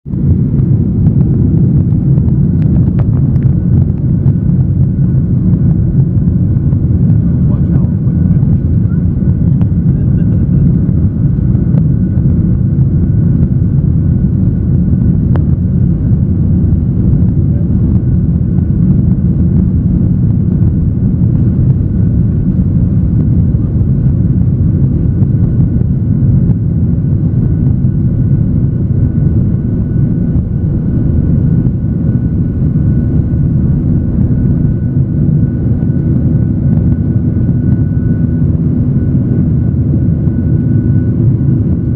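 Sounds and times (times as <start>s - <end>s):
faint steady whine: 0.1s - 41.9s
jet engine rumble in cabin: 0.1s - 41.9s.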